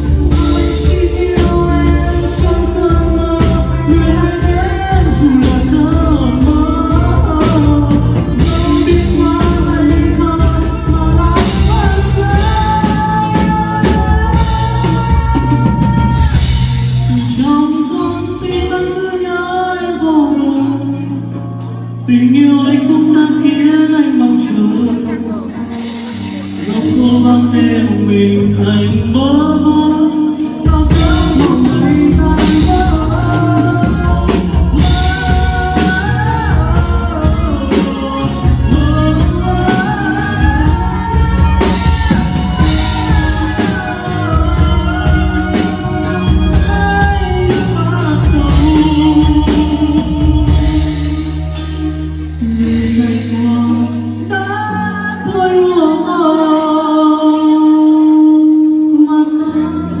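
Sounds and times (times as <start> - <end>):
pop ballad with singing: 0.0 - 60.0.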